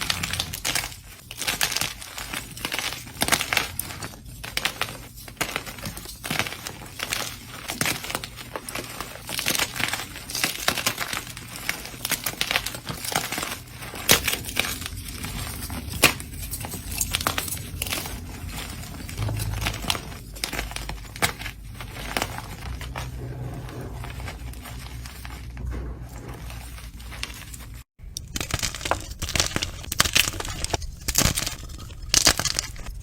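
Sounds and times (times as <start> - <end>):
slime crunching and crackling: 0.0 - 25.7, 26.3 - 33.0.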